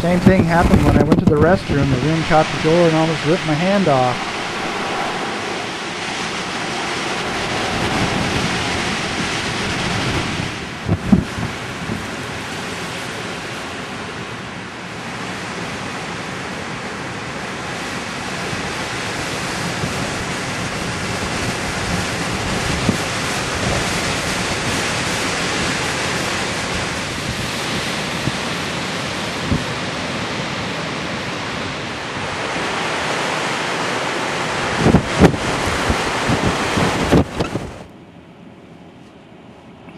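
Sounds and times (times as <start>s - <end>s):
wind buffeting microphone: 0.0s - 14.3s, 15.0s - 37.9s
storm wind: 0.0s - 39.8s
ocean surf: 0.0s - 39.9s.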